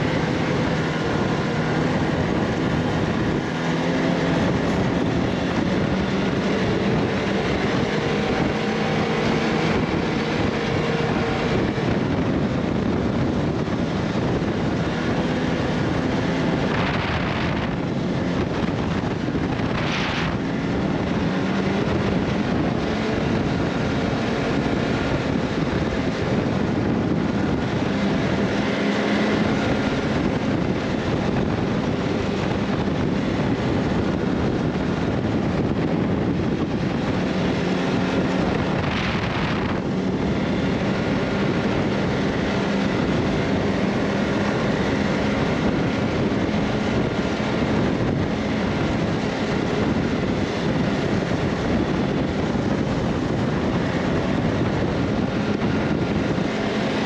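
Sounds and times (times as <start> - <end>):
vehicle engine running: 0.0 - 57.0
wind noise on microphone: 0.0 - 57.0.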